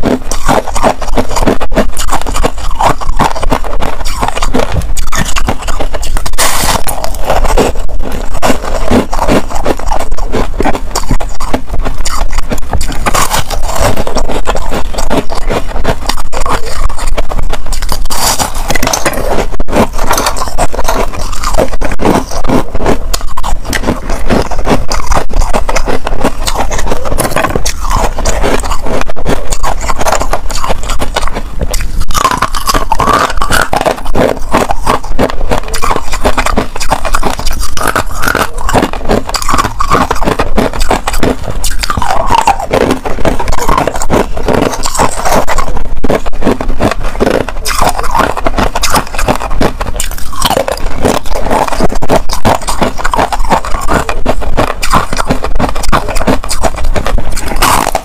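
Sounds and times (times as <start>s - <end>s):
ice crunching while chewed: 0.0s - 58.0s.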